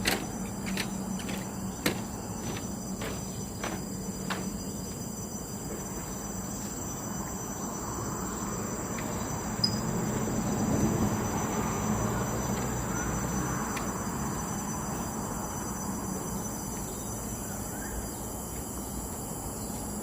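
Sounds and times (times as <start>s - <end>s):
insects calling: 0.0s - 20.0s.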